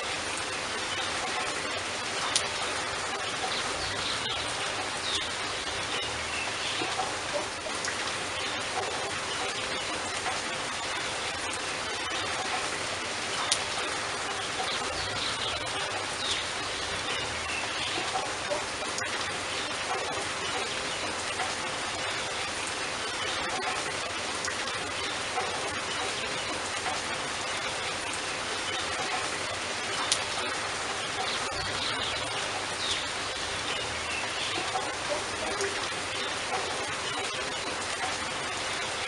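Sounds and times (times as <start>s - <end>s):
rain on wet paving: 0.0s - 39.0s
water drips and splashes: 0.0s - 39.0s.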